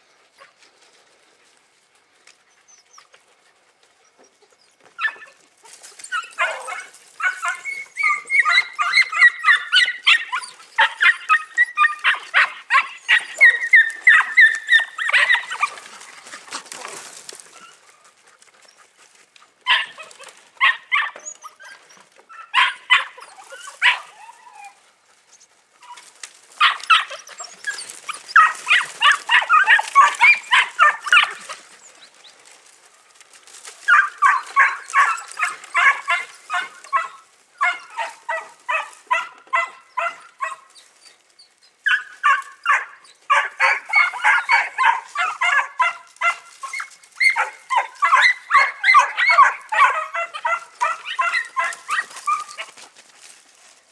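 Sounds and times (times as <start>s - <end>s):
puppies yapping: 2.5s - 53.4s.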